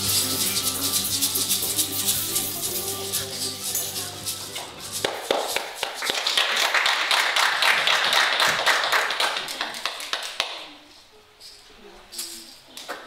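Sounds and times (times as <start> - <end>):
people clapping: 0.0 - 10.8.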